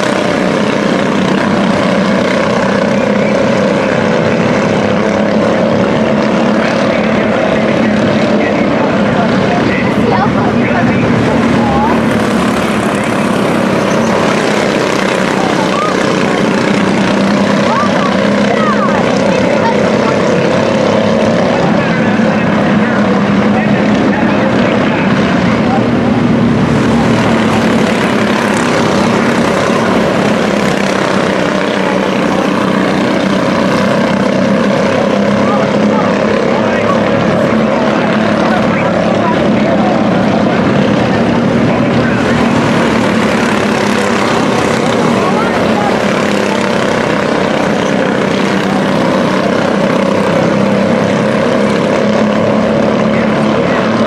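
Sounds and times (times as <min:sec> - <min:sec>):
race truck engines humming: 0:00.0 - 0:54.0.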